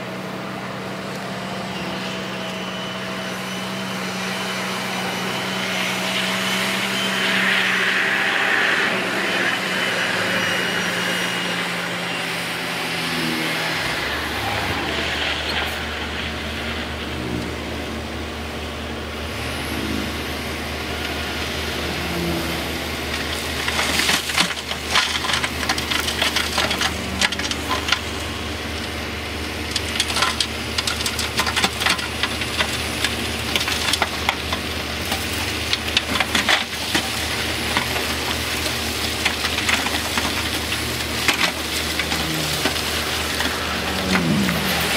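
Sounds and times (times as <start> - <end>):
diesel machinery engine drone: 0.0 - 44.9.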